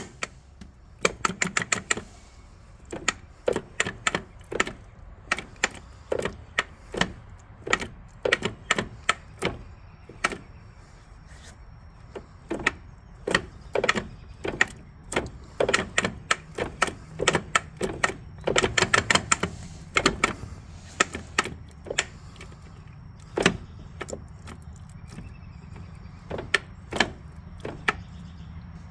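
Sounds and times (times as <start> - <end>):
axle locker popping and clicking: 0.0 - 28.9
steady low hum: 0.0 - 28.9.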